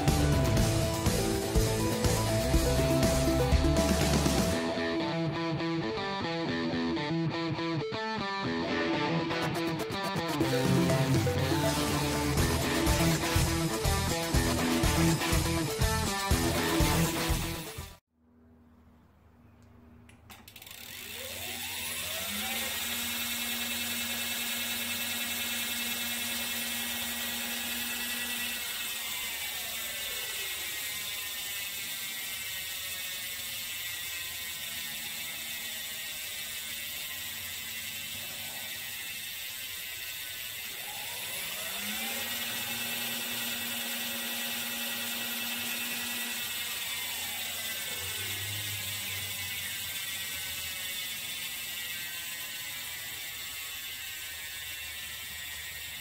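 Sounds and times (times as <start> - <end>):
bicycle freewheel ticking: 0.0 - 4.7, 8.7 - 18.0, 20.3 - 56.0
friction drive motor whine: 8.8 - 18.0, 19.8 - 56.0.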